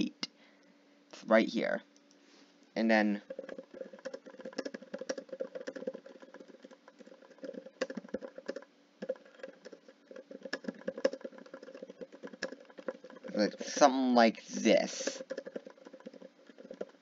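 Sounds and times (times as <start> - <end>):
computer keyboard typing: 3.1 - 17.0.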